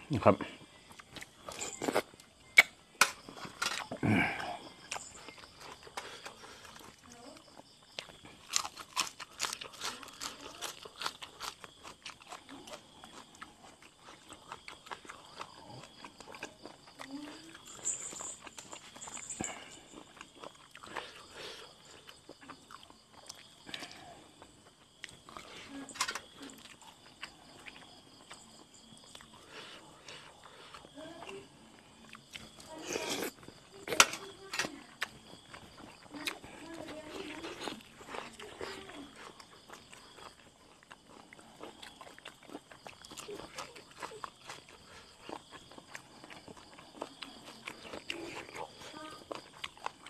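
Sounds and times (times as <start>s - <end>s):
crunching and chewing: 0.0s - 50.0s.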